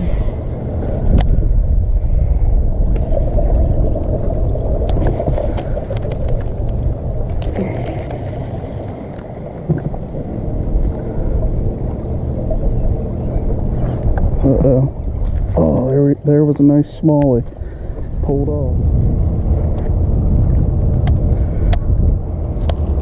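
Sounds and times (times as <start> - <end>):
water around boat: 0.0 - 23.0
wind on microphone: 0.0 - 23.0.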